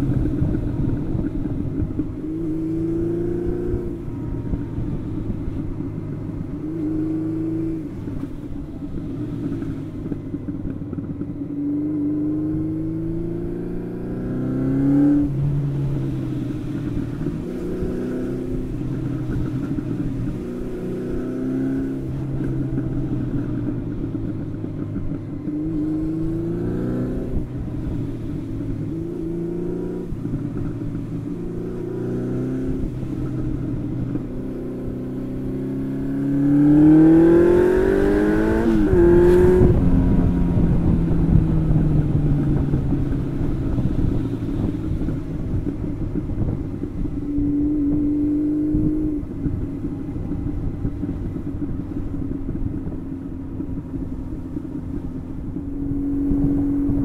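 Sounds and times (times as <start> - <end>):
motorcycle engine accelerating: 0.0 - 57.0
wind rushing over microphone: 0.0 - 57.0.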